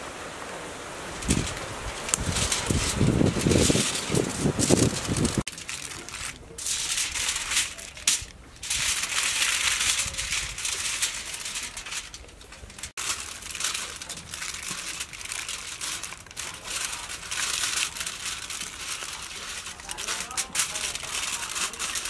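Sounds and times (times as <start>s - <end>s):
aluminium foil crinkling: 1.1s - 22.0s.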